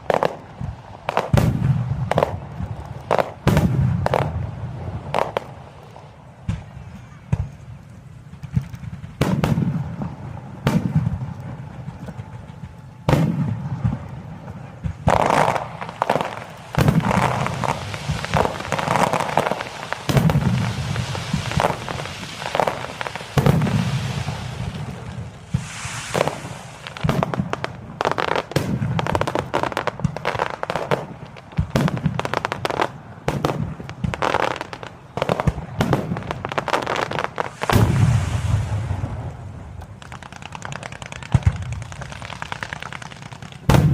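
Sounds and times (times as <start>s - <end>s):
fireworks bursting with booms: 0.0s - 7.7s, 8.3s - 43.9s
fireworks crackling: 0.0s - 43.9s.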